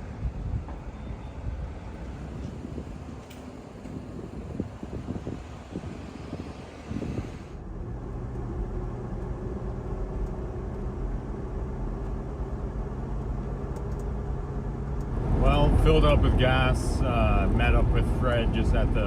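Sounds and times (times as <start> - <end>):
road noise: 0.0 - 19.0
vehicle engine drone: 0.0 - 19.0.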